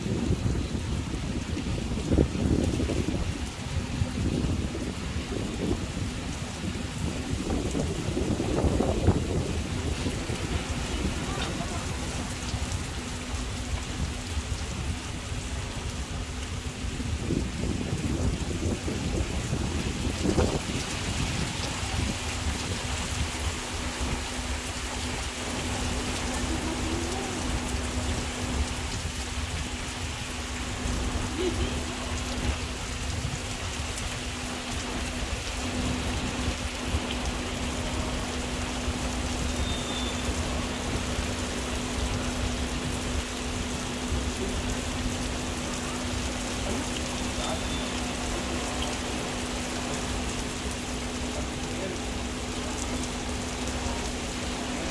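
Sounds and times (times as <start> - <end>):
rain pattering on surfaces: 0.0 - 54.9.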